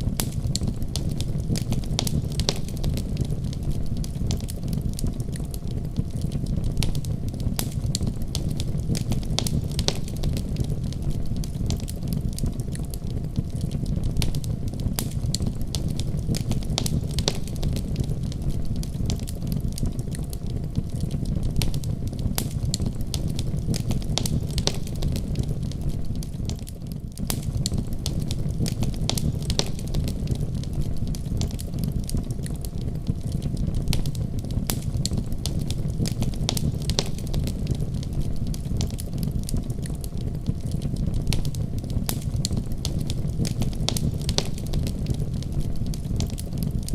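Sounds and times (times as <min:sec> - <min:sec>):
fire crackling and popping: 0:00.0 - 0:46.9
low rumble of fire: 0:00.0 - 0:46.9.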